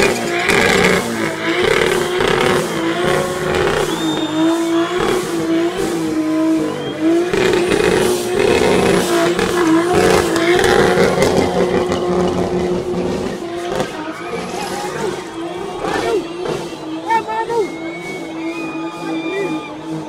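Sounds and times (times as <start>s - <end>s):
truck engine revving high: 0.0s - 20.0s
tyres spinning: 0.0s - 20.0s.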